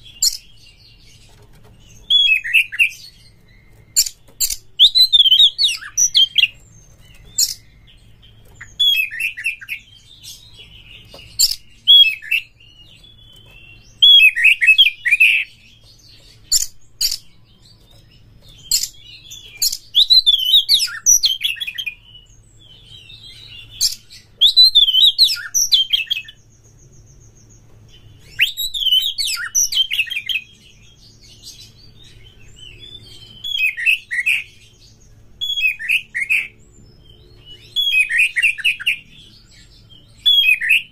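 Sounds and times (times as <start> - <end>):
bird singing warbles and clicks: 0.0 - 40.9.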